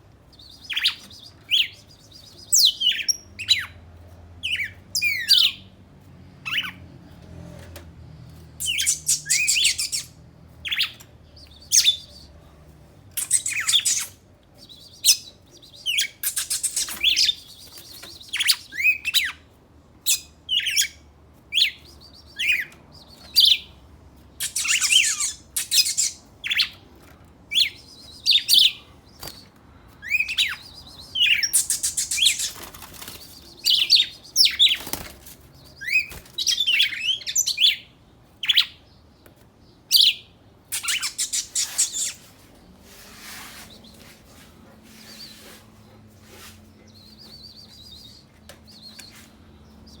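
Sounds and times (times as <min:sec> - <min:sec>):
songbirds singing: 0:00.0 - 0:05.8, 0:06.4 - 0:07.3, 0:07.9 - 0:50.0.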